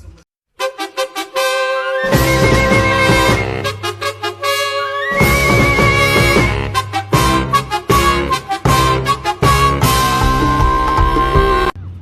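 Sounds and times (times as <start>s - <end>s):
horn-like tune: 0.6s - 11.8s
thudding music beat: 0.6s - 11.8s.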